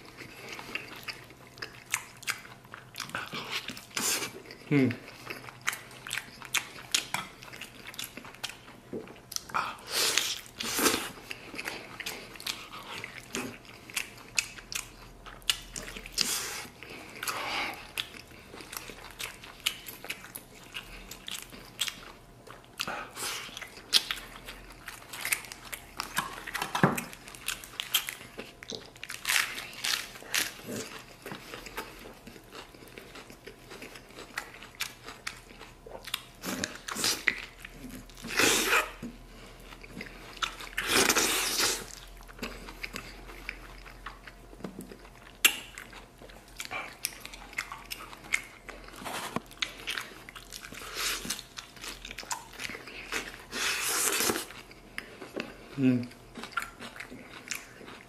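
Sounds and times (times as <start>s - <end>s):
man biting and chewing meat: 0.0s - 58.0s.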